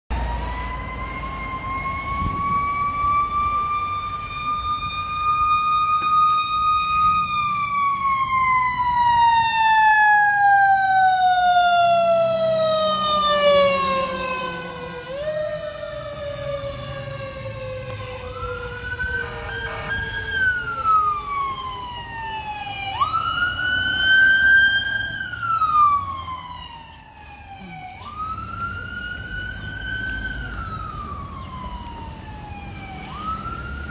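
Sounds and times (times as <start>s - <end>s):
truck engine rumbling: 0.1s - 33.9s
mechanical siren wailing: 0.2s - 33.9s.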